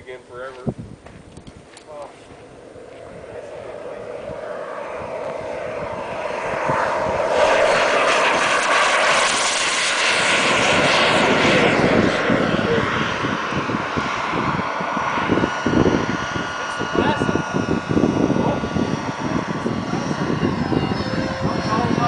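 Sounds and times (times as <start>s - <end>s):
model jet engine roar: 1.3s - 22.0s.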